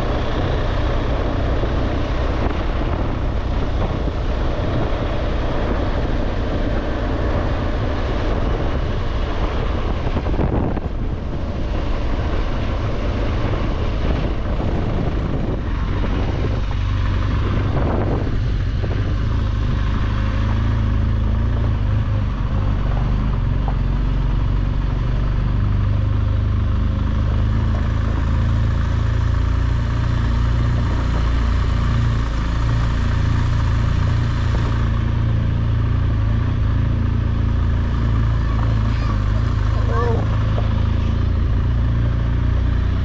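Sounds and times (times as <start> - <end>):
motorcycle engine running: 0.0 - 43.0
road noise: 0.0 - 43.0
wind noise: 0.0 - 43.0.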